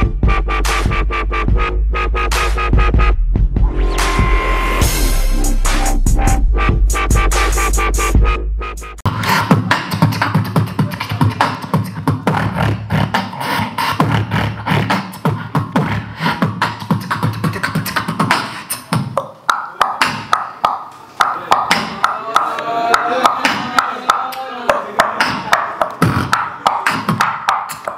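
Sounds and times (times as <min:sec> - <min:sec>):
beatboxing: 0:00.0 - 0:03.2, 0:04.0 - 0:27.9
electronic music: 0:00.0 - 0:27.9.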